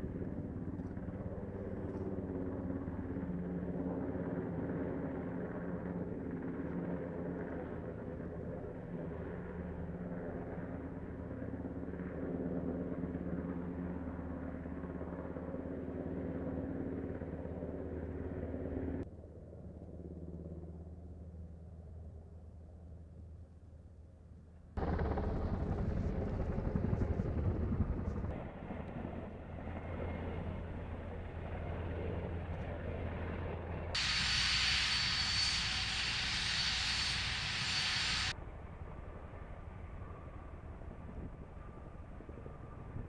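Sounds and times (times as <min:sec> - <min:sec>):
helicopter hovering: 0:00.0 - 0:22.9, 0:24.8 - 0:43.0.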